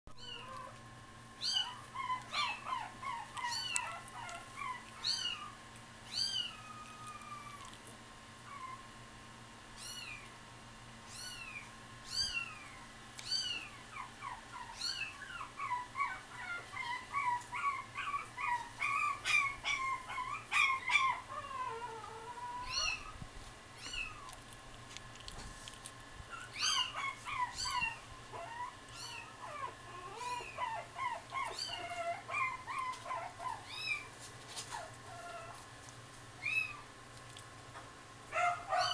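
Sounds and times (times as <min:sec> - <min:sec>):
young animals whining and squeaking: 0:00.1 - 0:00.8, 0:01.4 - 0:07.8, 0:08.4 - 0:08.9, 0:09.8 - 0:10.4, 0:11.1 - 0:24.4, 0:26.3 - 0:35.6, 0:36.4 - 0:36.9, 0:38.3 - 0:38.9
low electrical hum: 0:00.1 - 0:38.9.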